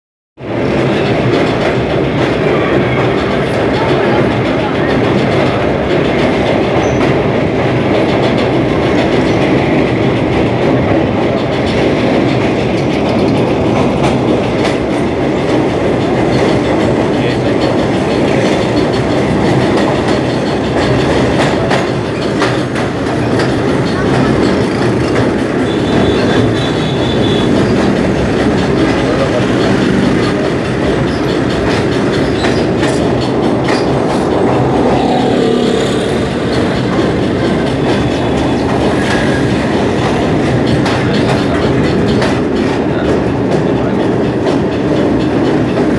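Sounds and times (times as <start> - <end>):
train rumble: 0.4 - 45.9
wheels clattering over rails: 0.4 - 45.9.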